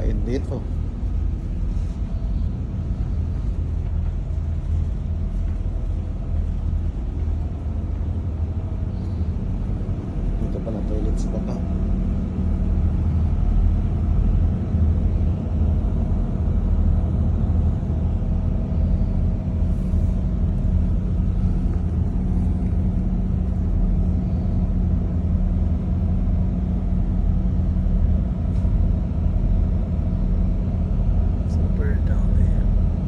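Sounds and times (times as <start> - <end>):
boat engines droning: 0.0 - 33.0.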